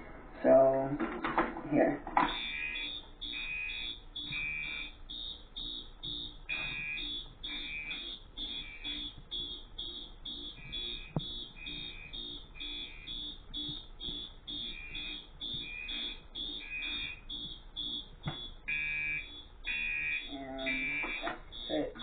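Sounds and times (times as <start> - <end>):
pulsing fire alarm horn: 2.2 - 22.0
second alarm tone: 2.2 - 22.0.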